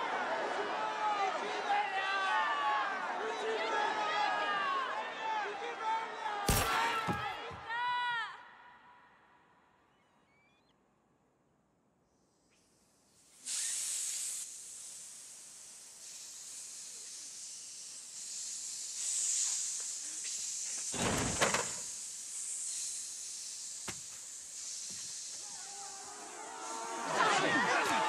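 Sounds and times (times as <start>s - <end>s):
crowd hissing: 0.0s - 8.8s, 13.3s - 28.0s.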